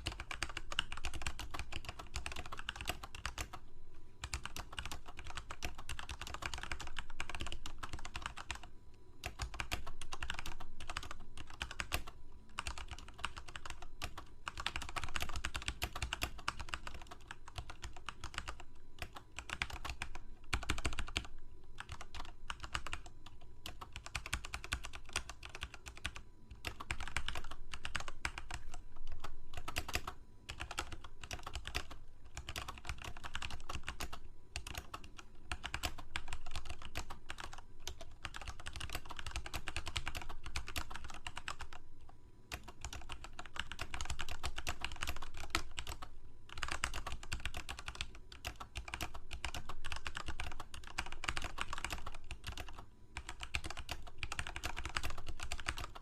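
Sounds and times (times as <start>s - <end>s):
fast typing on computer keyboard: 0.0s - 3.6s, 4.2s - 41.8s, 42.5s - 56.0s.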